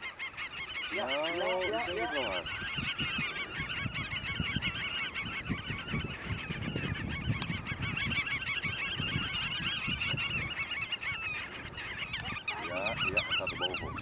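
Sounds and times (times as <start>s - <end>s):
flock of birds calling: 0.0s - 14.0s.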